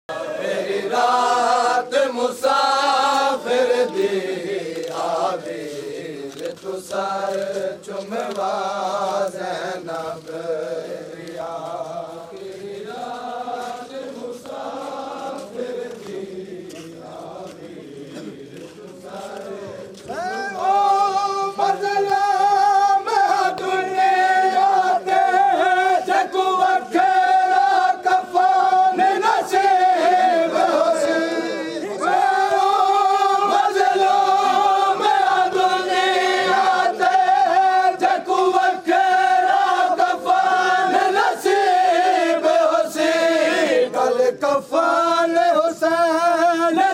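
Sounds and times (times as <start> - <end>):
men chanting a lament: 0.1 - 46.9.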